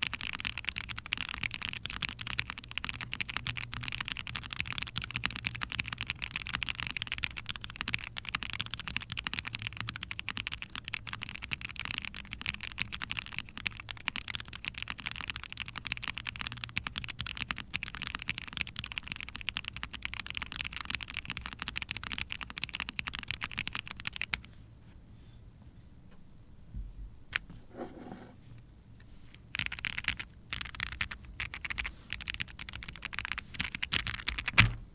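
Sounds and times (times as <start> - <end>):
mechanical keyboard typing: 0.0 - 24.5, 29.5 - 34.8.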